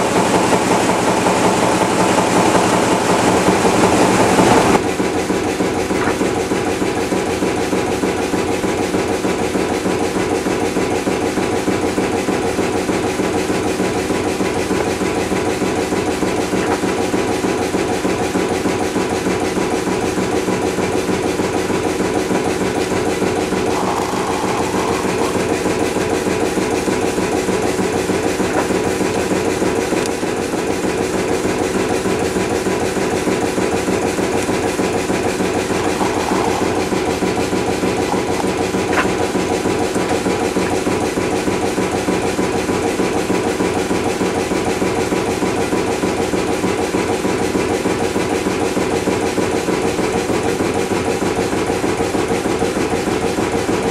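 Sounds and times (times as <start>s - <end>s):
marine diesel engine running: 0.0s - 53.9s.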